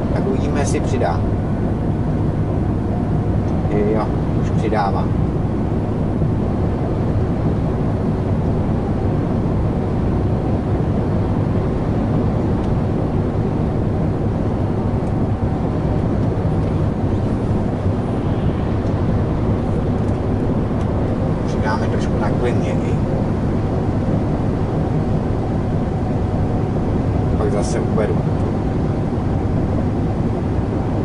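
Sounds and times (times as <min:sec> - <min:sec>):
truck engine and road noise: 0:00.0 - 0:31.0.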